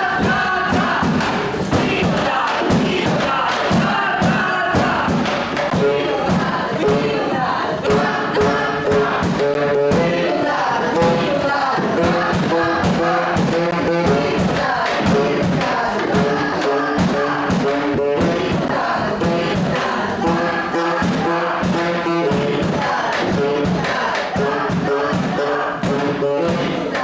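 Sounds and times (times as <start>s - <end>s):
group singing in chorus: 0.0s - 27.0s
steady beat: 0.0s - 27.0s.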